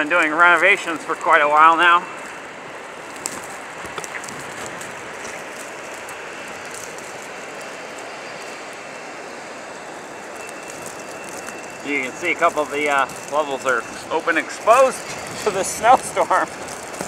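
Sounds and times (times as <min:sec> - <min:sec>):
blizzard wind and blowing snow: 0:00.0 - 0:17.0.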